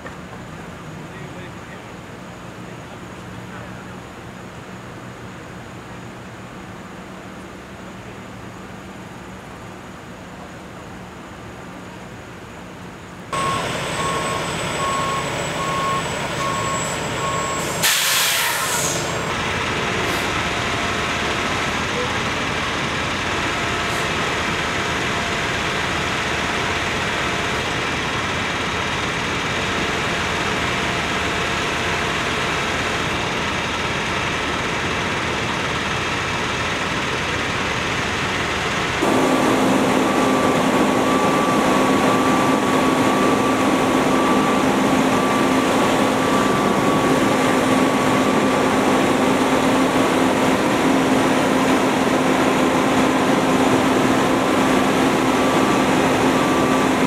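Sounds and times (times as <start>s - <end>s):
close engine low drone: 0.0s - 18.0s, 18.7s - 57.0s
truck diesel engines idling: 0.0s - 57.0s.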